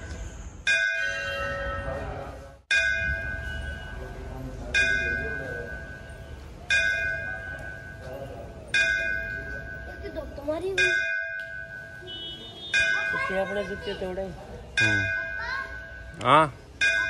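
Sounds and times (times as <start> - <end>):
temple bell ringing: 0.0 - 17.0.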